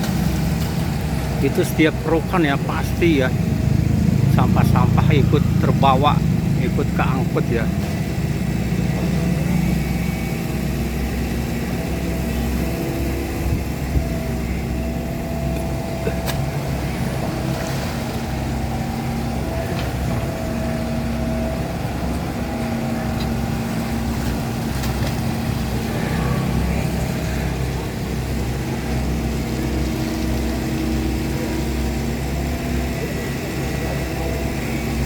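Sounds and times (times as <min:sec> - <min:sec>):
excavator diesel engine whining: 0:00.0 - 0:35.0.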